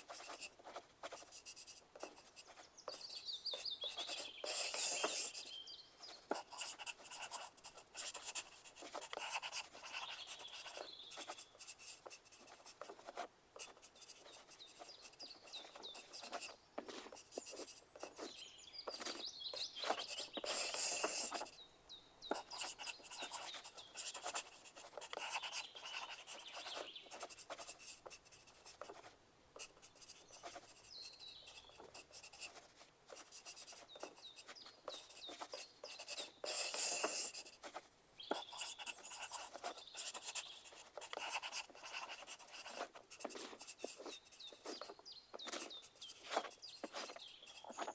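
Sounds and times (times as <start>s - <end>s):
pencils scratching on paper: 0.0s - 21.6s, 22.3s - 47.9s.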